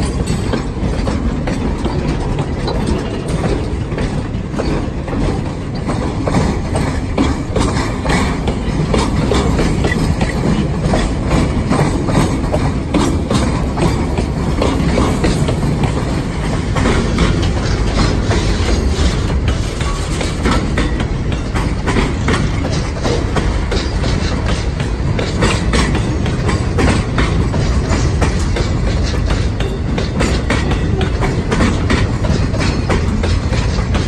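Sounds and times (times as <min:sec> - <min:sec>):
steel wheels rumbling on rails: 0:00.0 - 0:34.0
wheels clicking and clacking: 0:00.0 - 0:34.0.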